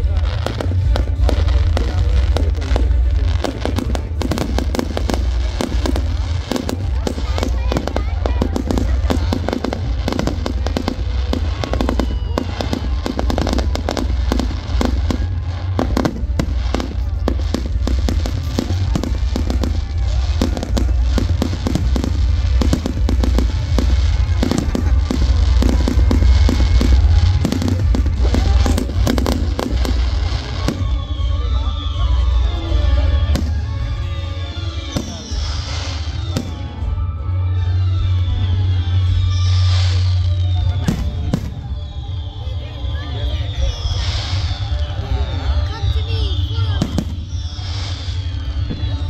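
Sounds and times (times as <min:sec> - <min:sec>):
deep rumble: 0:00.0 - 0:49.0
fireworks bangs and crackling: 0:00.0 - 0:49.0.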